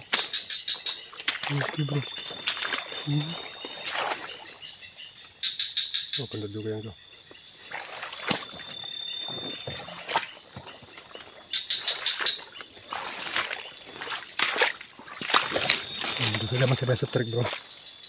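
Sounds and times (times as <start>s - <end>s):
splashing steps through undergrowth: 0.0s - 4.8s, 7.6s - 17.9s
night insects trilling: 0.0s - 18.0s.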